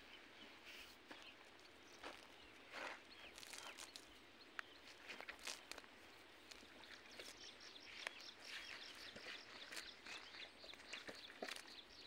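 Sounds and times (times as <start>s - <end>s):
footsteps on dry grass: 0.2s - 11.7s.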